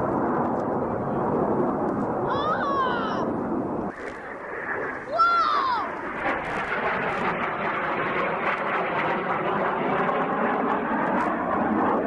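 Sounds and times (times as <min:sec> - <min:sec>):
airplane engine drone: 0:00.0 - 0:12.0.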